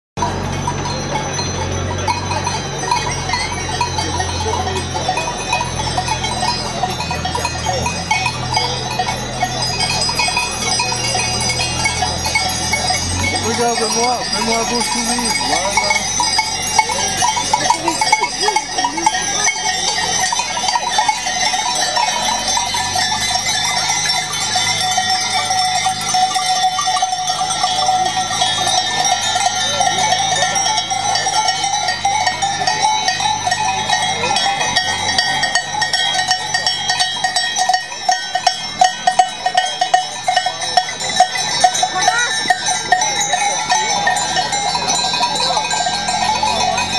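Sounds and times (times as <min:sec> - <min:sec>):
goat bells clanging: 0:00.2 - 0:46.9.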